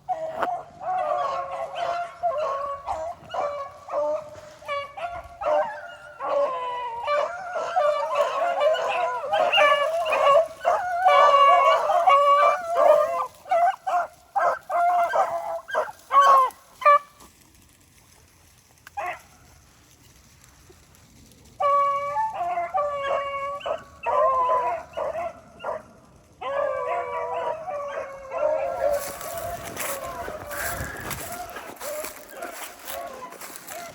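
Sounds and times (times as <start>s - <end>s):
hounds baying: 0.0s - 17.3s, 19.0s - 19.4s, 21.6s - 33.9s.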